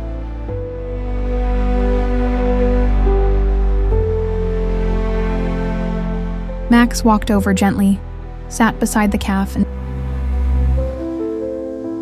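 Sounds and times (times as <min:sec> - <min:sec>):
soft sustained chords: 0:00.0 - 0:12.0.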